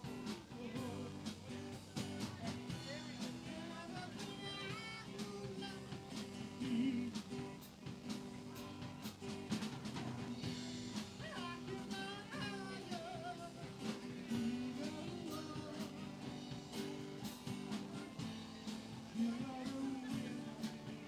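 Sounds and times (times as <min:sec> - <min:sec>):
drum kit beat: 0:00.0 - 0:21.0
electric guitar: 0:00.0 - 0:21.0
live rock band playing: 0:00.0 - 0:21.0.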